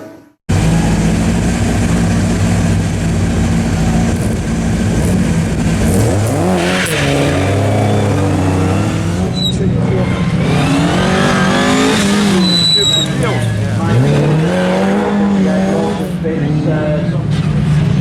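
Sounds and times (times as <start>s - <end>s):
rally car engine revving: 0.5s - 18.0s.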